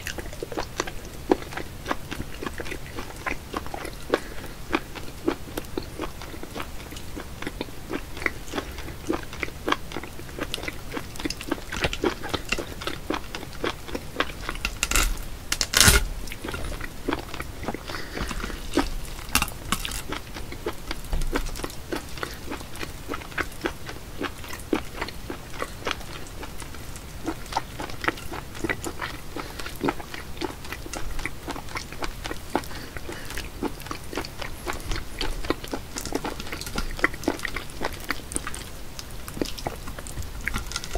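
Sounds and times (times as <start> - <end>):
wet octopus squelching and clicking: 0.0 - 40.9.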